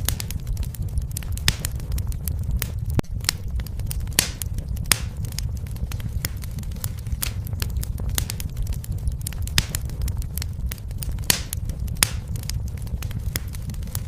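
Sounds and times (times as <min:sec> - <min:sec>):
fire crackling and popping: 0:00.0 - 0:14.0
low rumble: 0:00.0 - 0:14.0.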